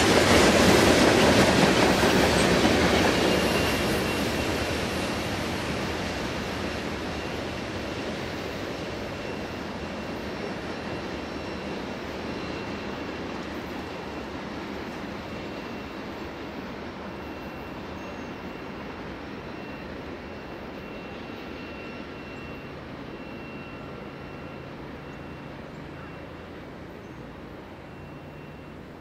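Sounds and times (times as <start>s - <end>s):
freight train cars rumbling: 0.0s - 29.0s.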